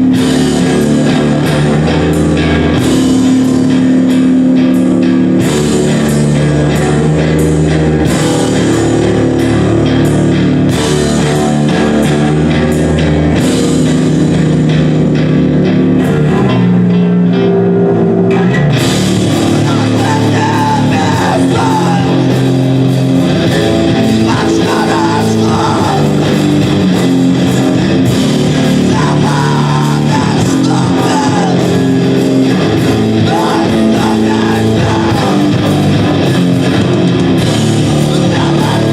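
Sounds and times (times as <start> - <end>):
bass guitar: 0.0 - 38.9
drum kit: 0.0 - 38.9
electric guitars: 0.0 - 38.9.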